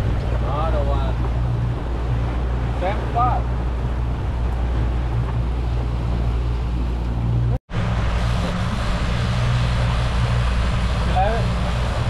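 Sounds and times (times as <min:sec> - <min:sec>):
boat engine droning: 0:00.0 - 0:12.0
rushing wind and water: 0:00.0 - 0:12.0.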